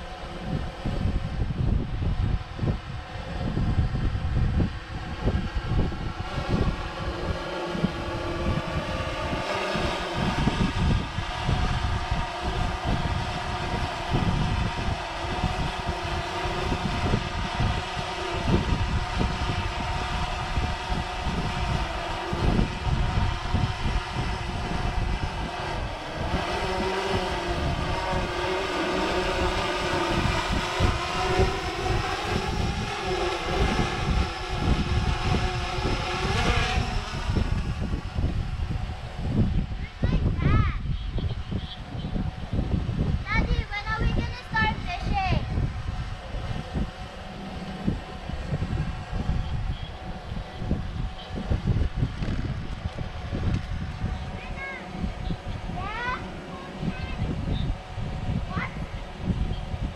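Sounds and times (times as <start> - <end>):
drone propellers whining: 0.0 - 59.9
wind rumbling on microphone: 0.0 - 59.9.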